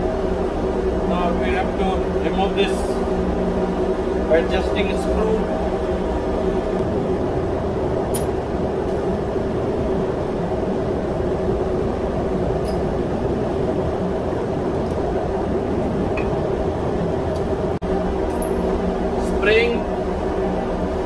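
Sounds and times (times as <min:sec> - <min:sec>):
engine-room machinery drone: 0:00.0 - 0:21.0.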